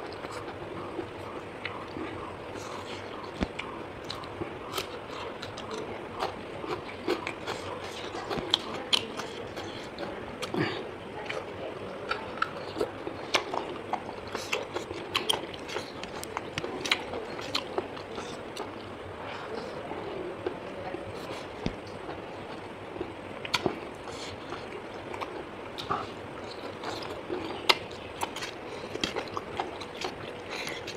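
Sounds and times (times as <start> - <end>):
person chewing and crunching food: 0.0 - 19.8, 21.2 - 30.9.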